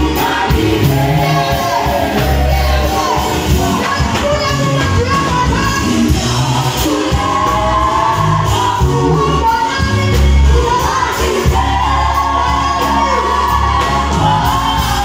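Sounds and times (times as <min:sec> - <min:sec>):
low bass notes: 0:00.0 - 0:15.0
vocal group singing in harmony: 0:00.0 - 0:15.0.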